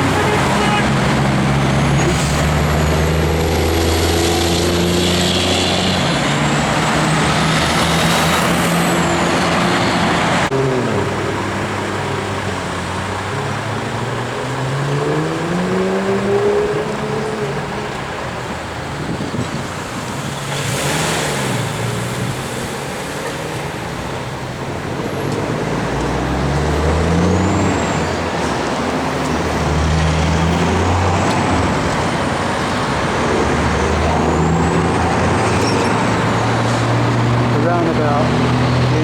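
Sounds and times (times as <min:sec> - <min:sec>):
tyre and road noise: 0:00.0 - 0:39.0.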